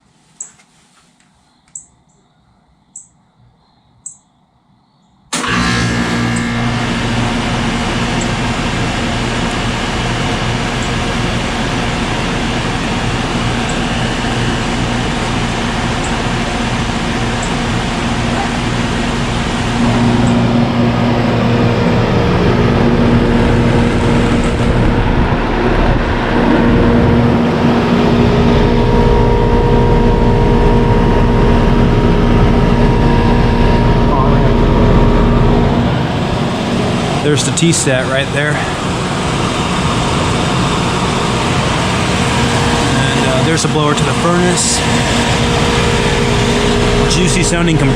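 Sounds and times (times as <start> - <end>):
air conditioner compressor humming: 5.3 - 47.9
condenser fan rushing: 5.3 - 47.9.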